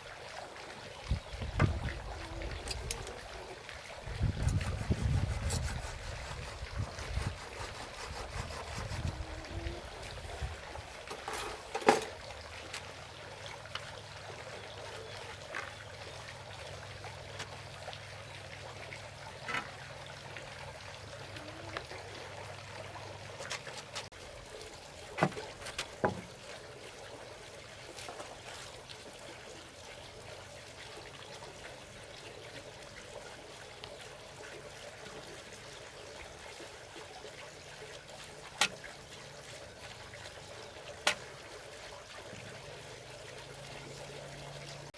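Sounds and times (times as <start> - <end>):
water trickling: 0.0 - 44.9.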